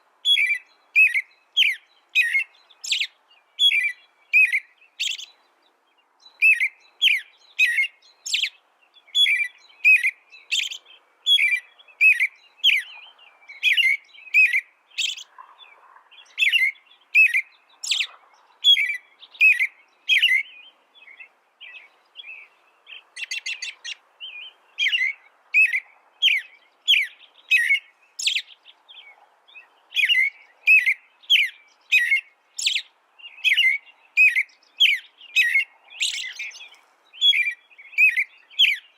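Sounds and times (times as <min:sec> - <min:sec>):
small songbird chirping: 0:00.0 - 0:38.9.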